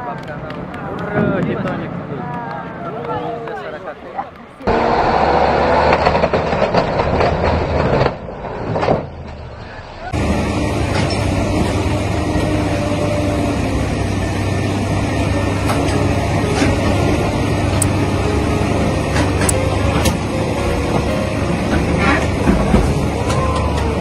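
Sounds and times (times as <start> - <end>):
truck diesel engine running: 4.6 - 24.0.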